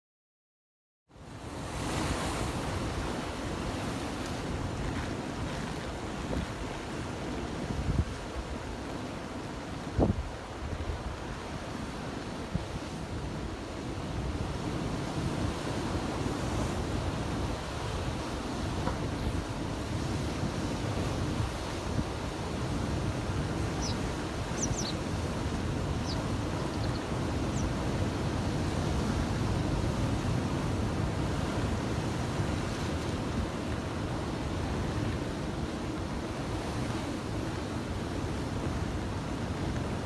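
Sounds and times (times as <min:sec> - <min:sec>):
wind on microphone: 0:01.6 - 0:08.9, 0:09.5 - 0:40.0.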